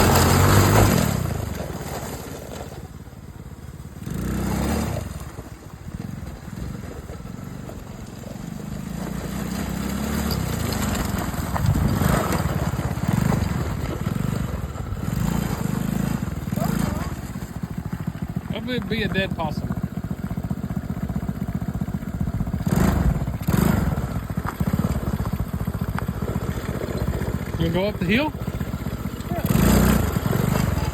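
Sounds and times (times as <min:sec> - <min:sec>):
atv engine revving: 0:00.0 - 0:30.9.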